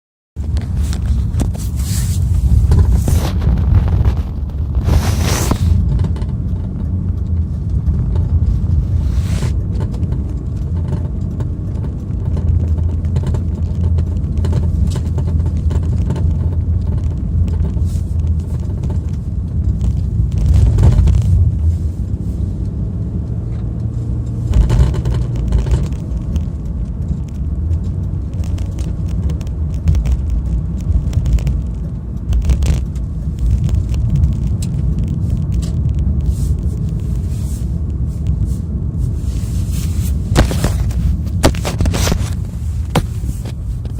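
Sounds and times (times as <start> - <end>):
car road rumble: 0.4 - 43.9.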